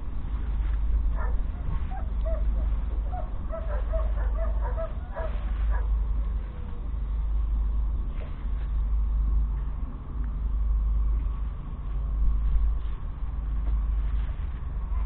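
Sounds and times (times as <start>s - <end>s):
diesel tractor engine rumbling: 0.0s - 15.0s.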